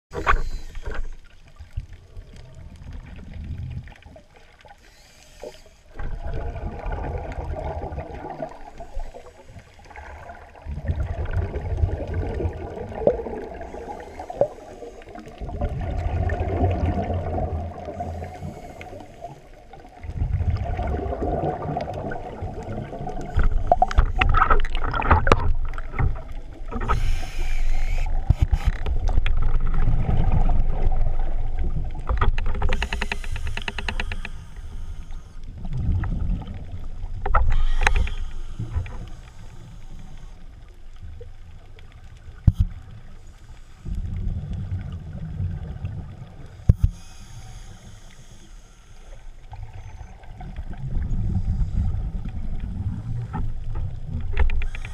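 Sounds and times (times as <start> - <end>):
muffled underwater water noise: 0.1 - 54.9.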